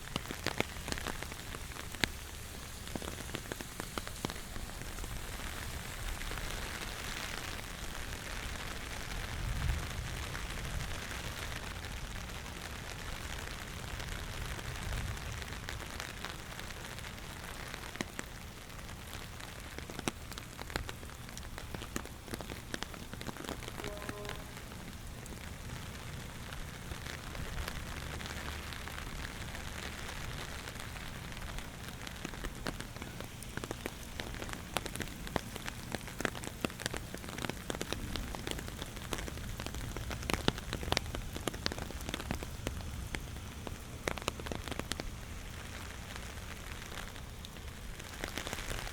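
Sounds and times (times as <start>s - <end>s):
close raindrop hits: 0.0s - 48.9s
rain falling: 0.0s - 48.9s.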